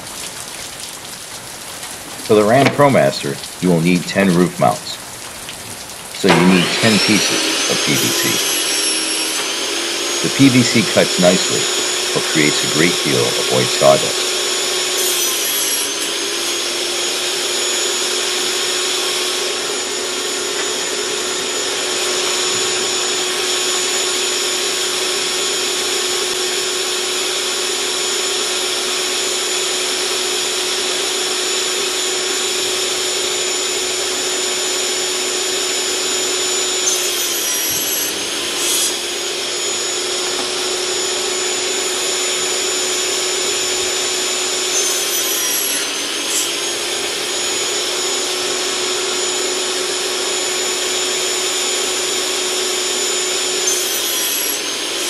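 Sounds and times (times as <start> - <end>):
table saw cutting boards: 2.3 - 5.0, 6.2 - 55.0.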